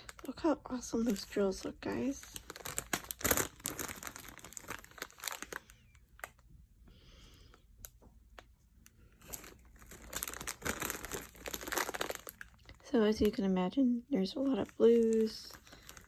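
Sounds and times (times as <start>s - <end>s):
plastic baggies crinkling: 0.0s - 6.4s, 7.4s - 13.6s, 14.2s - 16.0s.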